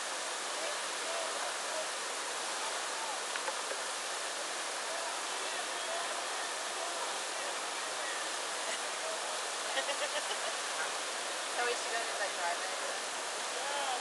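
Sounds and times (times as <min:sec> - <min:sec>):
whitewater rapids rushing: 0:00.0 - 0:14.0.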